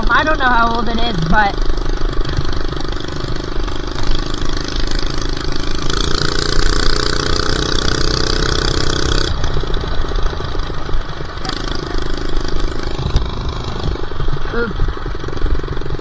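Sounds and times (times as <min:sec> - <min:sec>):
small four-stroke engine running: 0:00.0 - 0:16.0.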